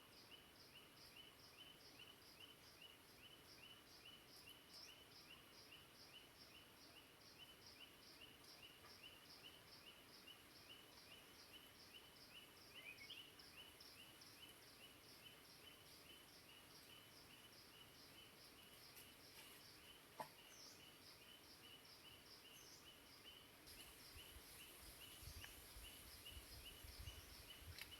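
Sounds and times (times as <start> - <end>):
faint steady hiss: 0.0 - 27.9
high chirping birdsong: 0.1 - 27.9.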